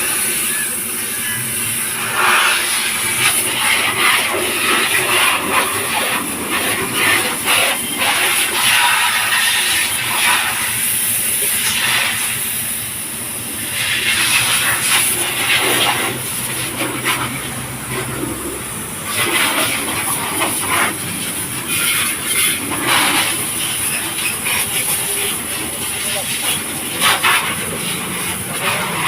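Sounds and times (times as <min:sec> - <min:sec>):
hose spraying water: 0:00.0 - 0:29.0.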